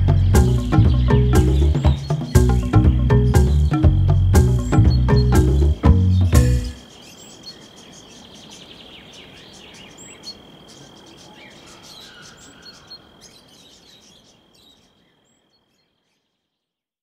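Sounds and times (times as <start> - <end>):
bird chirps: 0.0 - 16.5.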